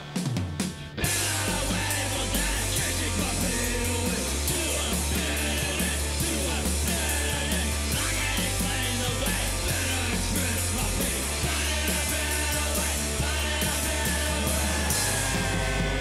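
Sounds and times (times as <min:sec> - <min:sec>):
rock band playing: 0:00.0 - 0:16.0
steady drum beat: 0:00.0 - 0:16.0.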